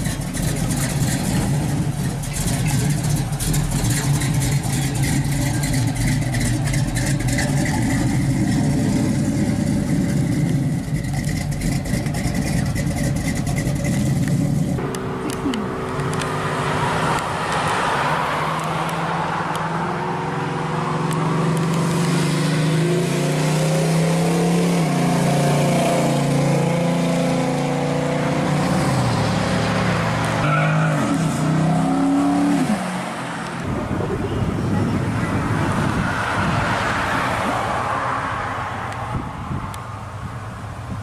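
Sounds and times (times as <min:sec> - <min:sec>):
engine revving and accelerating: 0:00.0 - 0:37.8.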